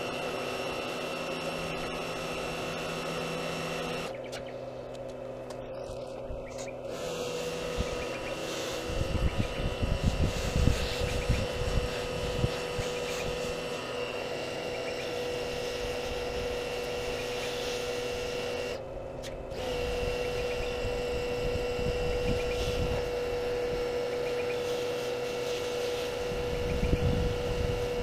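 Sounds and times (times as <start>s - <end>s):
small motor humming and whining: 0.0s - 28.0s.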